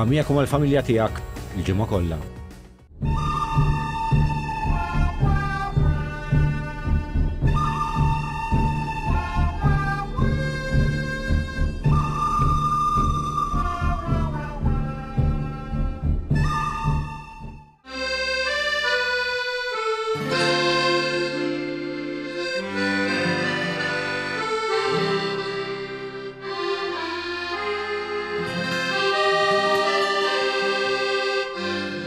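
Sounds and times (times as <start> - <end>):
instrumental background music: 0.0 - 32.0.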